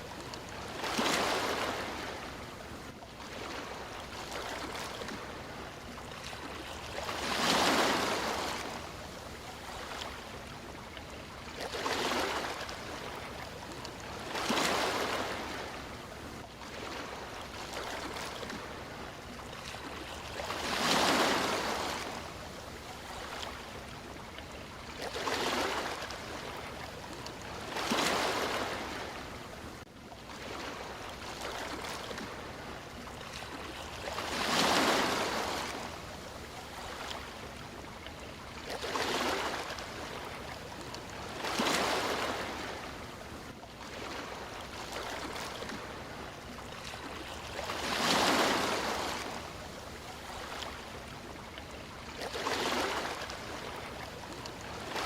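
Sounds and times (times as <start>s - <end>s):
sea waves breaking: 0.0s - 55.0s
steady wash of water: 0.0s - 55.0s.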